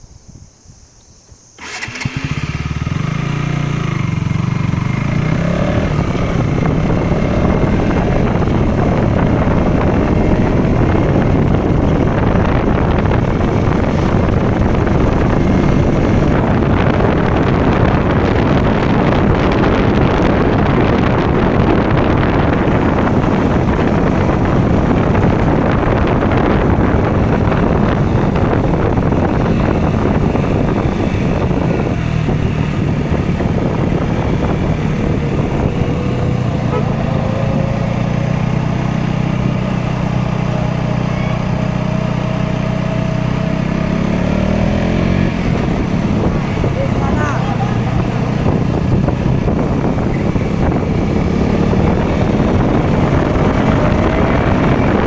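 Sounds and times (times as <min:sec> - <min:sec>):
wind rush: 0:00.0 - 0:55.0
motorcycle engine revving: 0:01.6 - 0:55.0.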